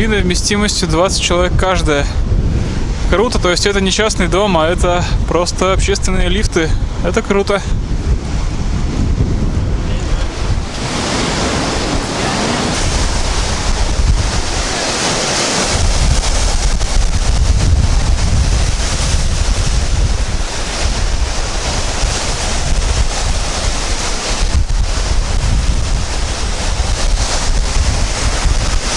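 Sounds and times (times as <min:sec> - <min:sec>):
surf breaking and washing: 0:00.0 - 0:28.9
wind buffeting microphone: 0:00.0 - 0:28.9.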